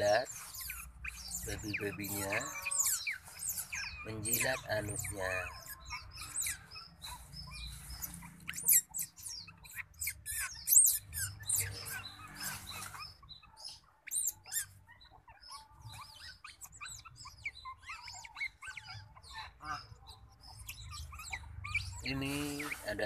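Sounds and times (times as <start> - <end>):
otter pups squeaking and chirping: 0.0 - 23.0.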